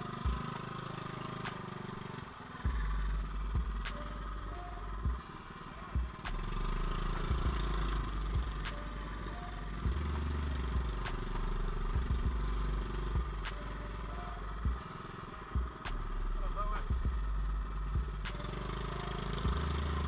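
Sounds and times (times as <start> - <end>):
bike knocking and rattling: 0.0 - 6.6, 7.2 - 17.3
mini bike engine running: 0.0 - 14.0, 14.6 - 15.8, 16.4 - 20.0.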